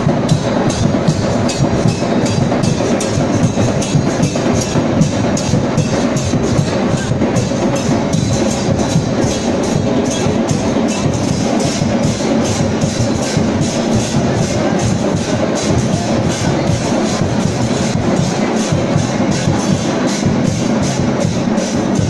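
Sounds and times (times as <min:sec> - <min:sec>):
drums beaten fast: 0:00.0 - 0:22.0
street crowd noise: 0:00.0 - 0:22.0.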